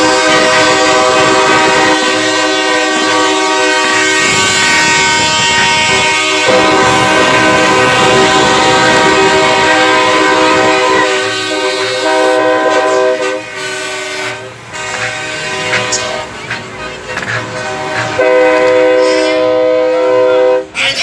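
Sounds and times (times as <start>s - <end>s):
truck air horn blasts: 0.0s - 20.8s.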